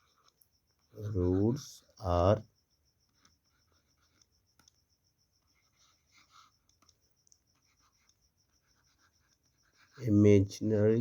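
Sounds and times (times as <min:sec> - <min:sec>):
pen scratching while writing: 0:00.0 - 0:01.4, 0:03.0 - 0:10.8.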